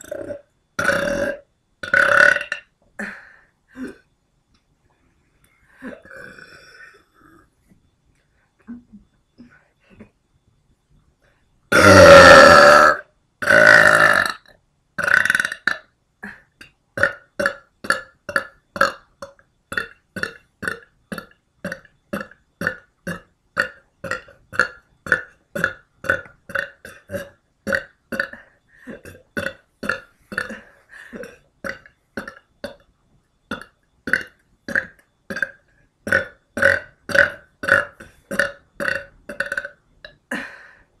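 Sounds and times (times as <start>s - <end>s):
woman belching: 0.0s - 3.2s, 5.8s - 7.4s, 11.7s - 32.8s, 33.5s - 40.6s.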